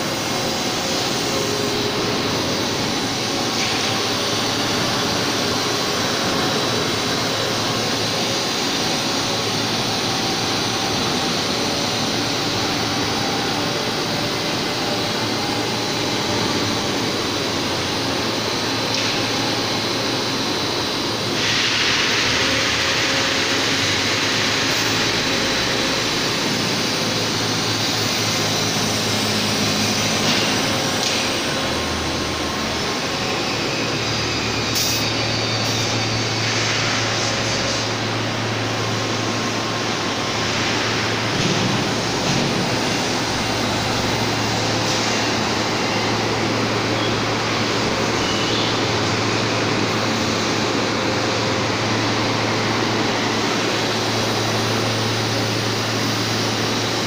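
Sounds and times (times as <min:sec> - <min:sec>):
machine hum and hiss: 0:00.0 - 0:57.0.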